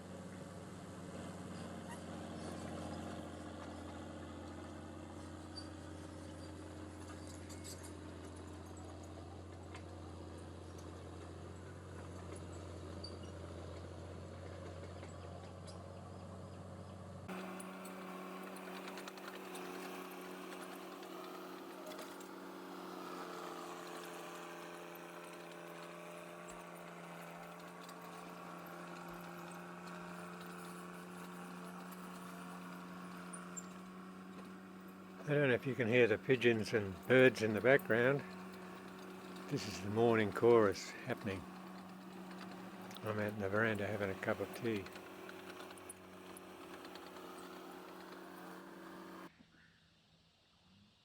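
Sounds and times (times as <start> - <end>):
distant diesel engine running: 0.0 - 49.3.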